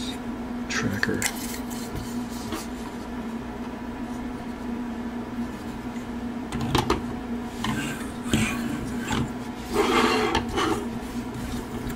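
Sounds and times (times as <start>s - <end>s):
low electrical hum: 0.0s - 11.9s.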